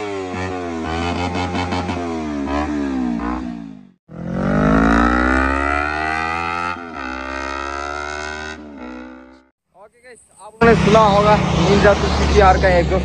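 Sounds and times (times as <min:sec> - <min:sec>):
motorcycle engine revving: 0:00.0 - 0:09.5, 0:10.6 - 0:13.0.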